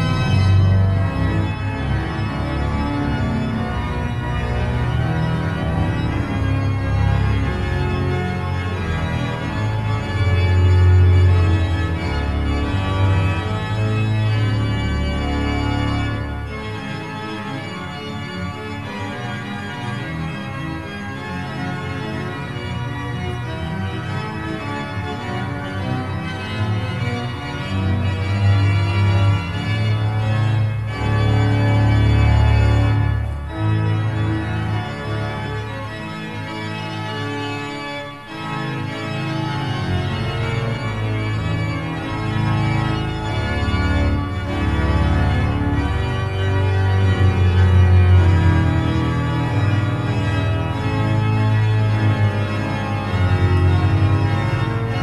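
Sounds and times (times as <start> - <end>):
pipe organ playing chords: 0.0 - 55.0.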